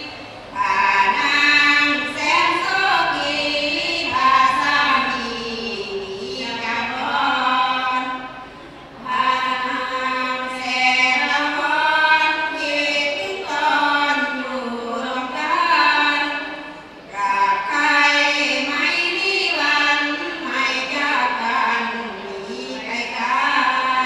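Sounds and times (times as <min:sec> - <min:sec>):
women chanting unaccompanied: 0:00.0 - 0:08.4, 0:09.0 - 0:24.0.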